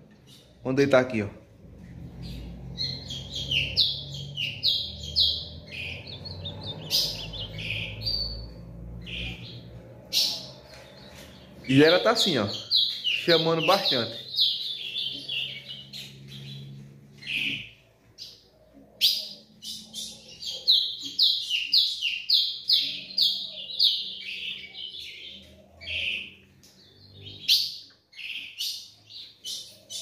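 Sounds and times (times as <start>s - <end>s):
bird chirping: 0.0s - 30.0s.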